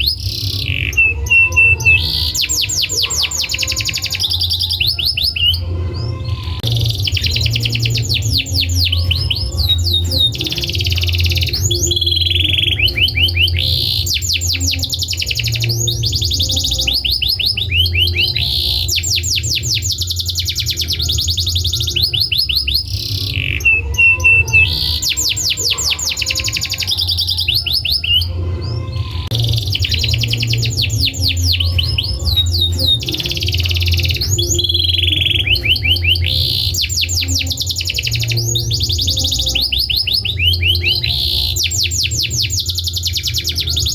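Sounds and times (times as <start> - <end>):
canary singing trills: 0.0 - 43.9
steady low hum: 0.0 - 43.9.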